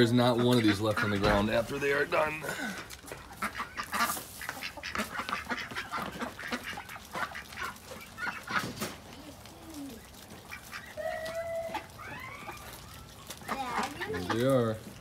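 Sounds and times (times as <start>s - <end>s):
beaks pecking concrete: 0.0s - 15.0s.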